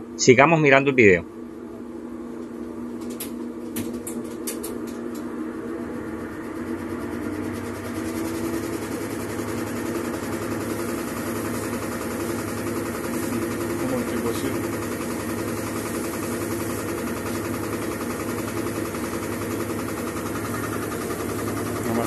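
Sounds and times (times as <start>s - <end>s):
washing machine spin hum: 0.0s - 22.0s.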